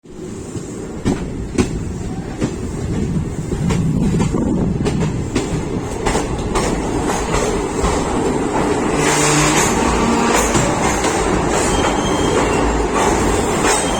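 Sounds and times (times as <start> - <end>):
train rumbling on track: 0.0 - 13.9
wheels clicking over rails: 0.4 - 13.9.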